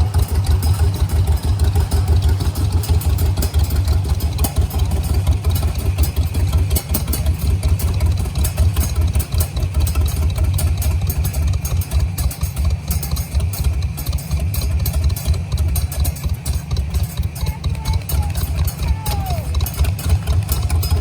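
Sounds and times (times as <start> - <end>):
tractor engines idling: 0.0 - 21.0.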